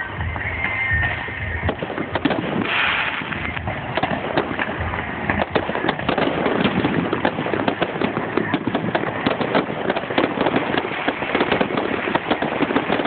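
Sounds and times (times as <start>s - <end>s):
deep fireworks booms: 0.0s - 13.0s
firework whistle: 0.0s - 13.0s
fireworks bangs and crackles: 0.0s - 13.0s.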